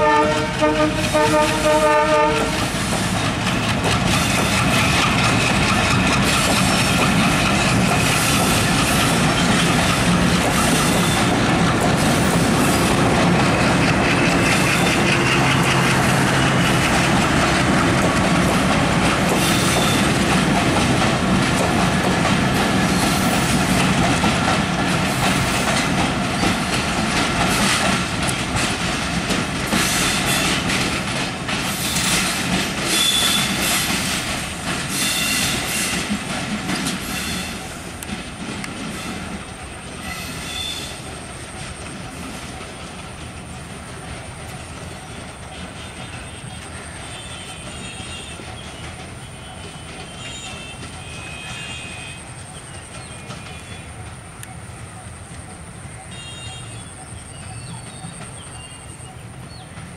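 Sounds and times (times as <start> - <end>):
train wheels running over track: 0.0 - 59.9.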